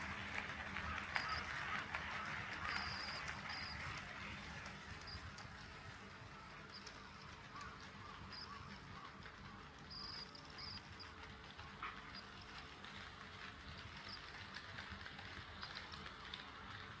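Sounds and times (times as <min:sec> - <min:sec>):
model train wheels clattering: 0:00.0 - 0:17.0.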